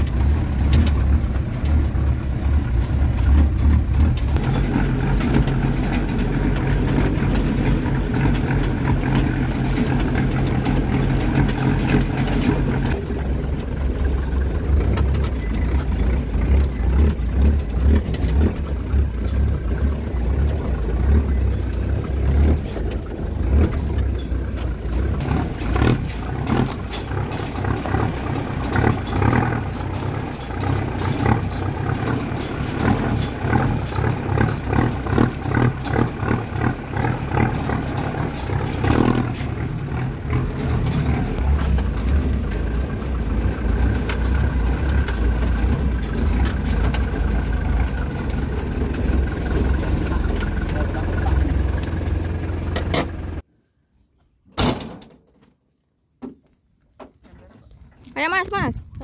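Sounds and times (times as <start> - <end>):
body knocking and rattling: 0.0 - 53.4
diesel engine droning: 0.0 - 53.5.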